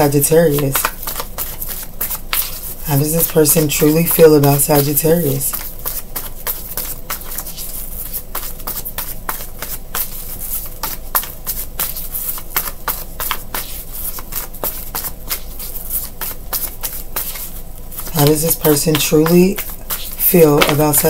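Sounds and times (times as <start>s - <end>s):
deck of cards shuffled by hand: 0.0s - 21.0s.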